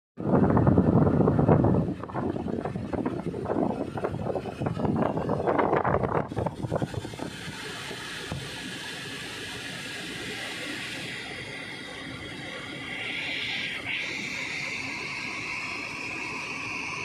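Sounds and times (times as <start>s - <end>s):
car cabin hum and hiss: 0.2s - 17.0s.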